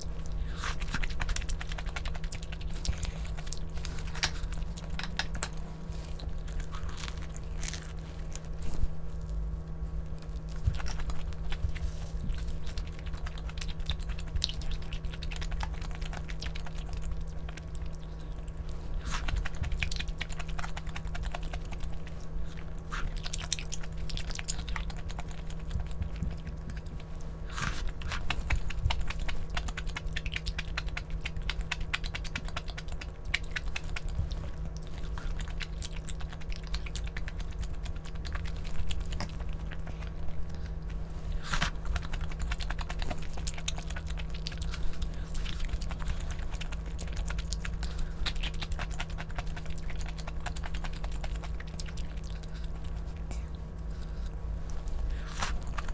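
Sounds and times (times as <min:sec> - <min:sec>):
chewing and biting: 0:00.0 - 0:55.9
steady low hum: 0:00.0 - 0:55.9
small clicks and crunches: 0:00.1 - 0:55.9.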